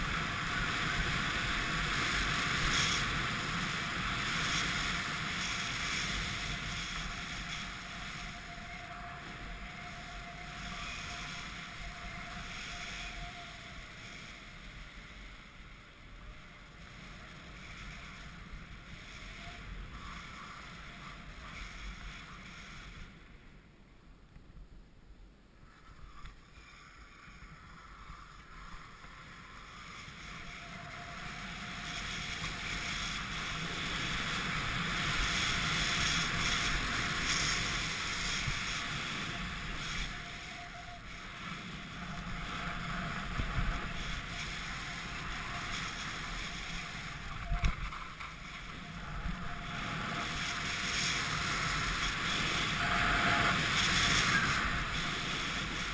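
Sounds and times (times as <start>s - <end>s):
skis hissing over snow: 0.0s - 23.3s, 25.6s - 55.9s
wind rushing over microphone: 0.0s - 23.6s, 25.6s - 55.9s.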